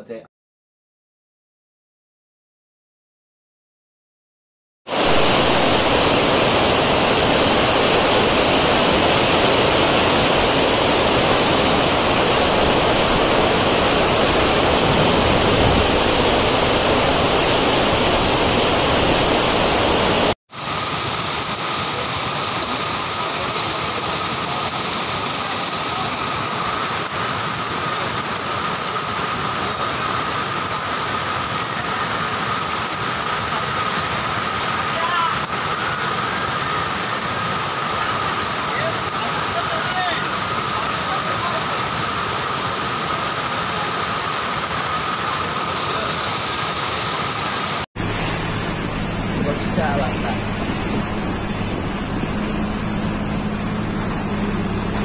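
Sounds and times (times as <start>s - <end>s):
heavy rain: 4.9s - 55.0s
rushing floodwater: 4.9s - 55.0s
water cascading down hillside: 4.9s - 55.0s.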